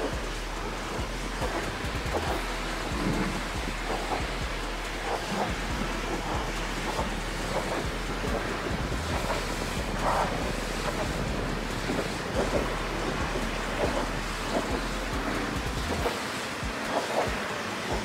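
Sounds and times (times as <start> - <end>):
low hum: 0.0 - 18.0
water jet spraying on metal: 0.0 - 18.0.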